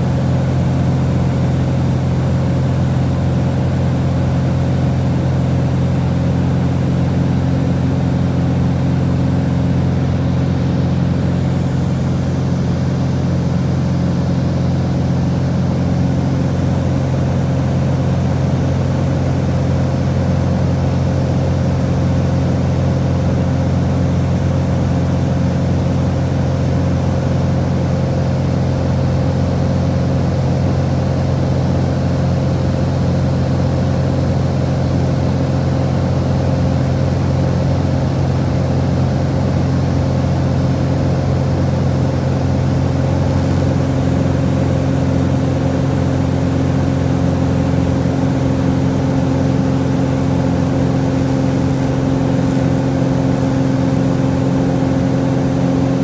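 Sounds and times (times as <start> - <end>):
small plane engine drone in cabin: 0.0 - 56.0.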